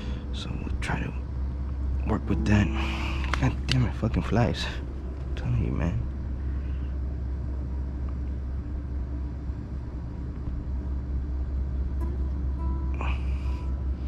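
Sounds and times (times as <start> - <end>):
faint even hum: 0.0 - 14.0
steady low rumble: 0.0 - 14.0.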